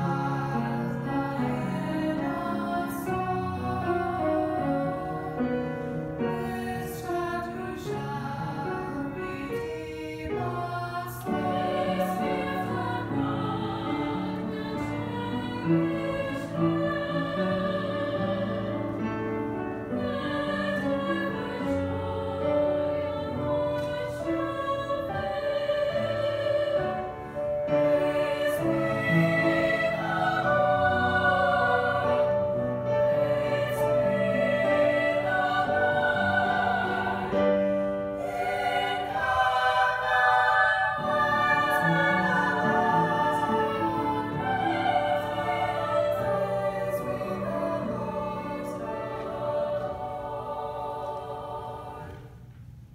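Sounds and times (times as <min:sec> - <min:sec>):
women's choir singing: 0:00.0 - 0:52.4.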